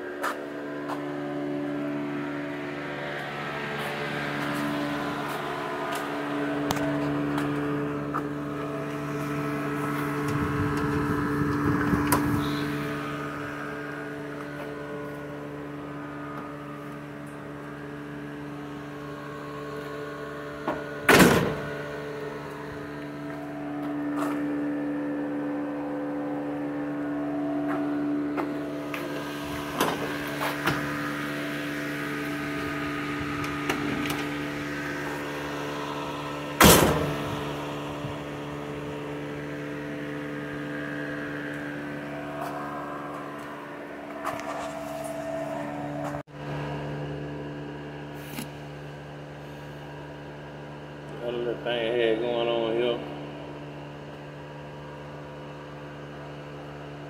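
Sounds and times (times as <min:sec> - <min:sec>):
electric fan humming: 0:00.0 - 0:57.0.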